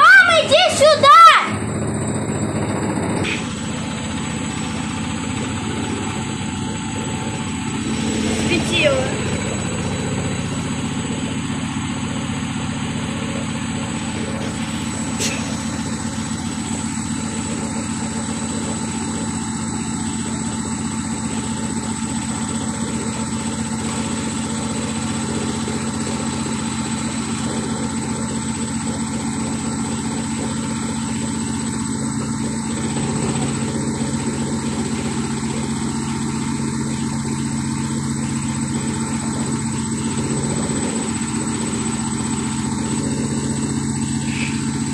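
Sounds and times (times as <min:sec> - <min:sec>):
washing machine spin cycle whirring: 0:00.0 - 0:44.9.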